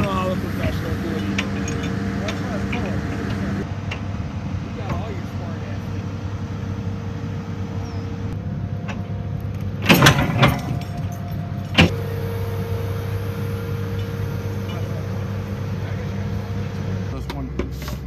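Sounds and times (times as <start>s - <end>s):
excavator diesel engine idling: 0.0s - 18.0s.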